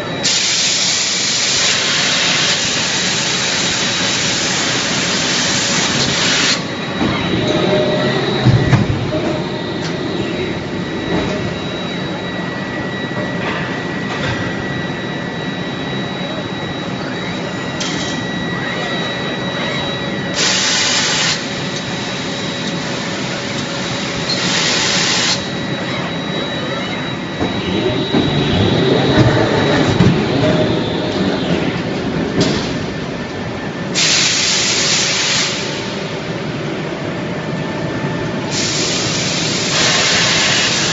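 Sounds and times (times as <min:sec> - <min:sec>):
factory machinery din: 0:00.0 - 0:40.9
faint machine whine: 0:00.0 - 0:40.9.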